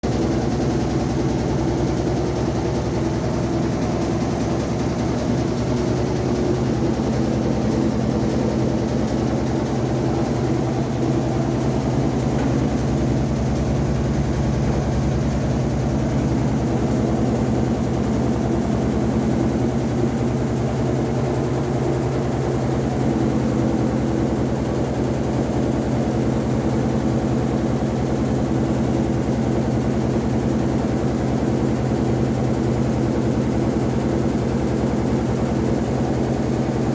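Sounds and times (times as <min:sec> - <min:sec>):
washing machine running: 0:00.0 - 0:36.9.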